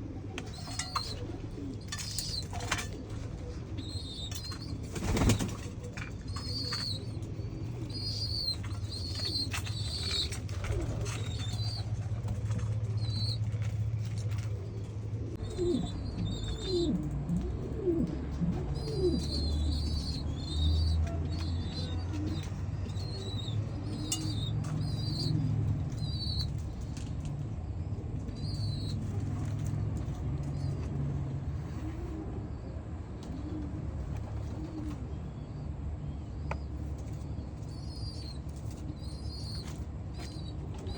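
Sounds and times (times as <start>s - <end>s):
pigeons cooing: 0.0s - 26.9s, 28.2s - 35.4s, 36.6s - 40.9s.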